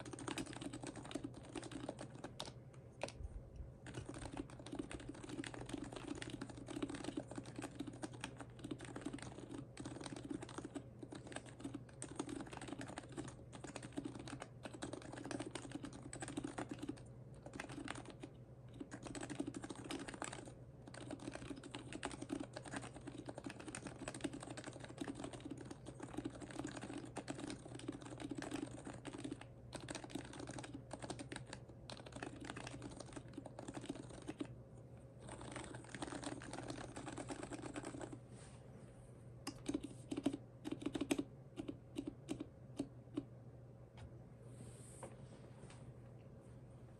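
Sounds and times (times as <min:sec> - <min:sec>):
keyboard typing: 0:00.0 - 0:34.5, 0:35.2 - 0:38.2, 0:39.4 - 0:43.3.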